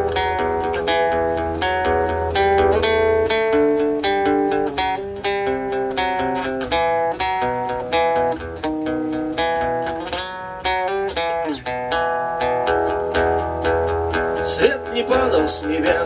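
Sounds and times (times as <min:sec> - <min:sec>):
guitar picking melody: 0:00.0 - 0:16.0.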